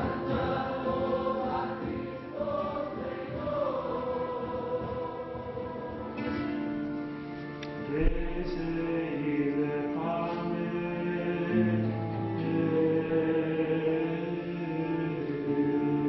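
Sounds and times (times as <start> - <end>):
liturgical chant singing: 0.0 - 6.9, 7.8 - 16.0.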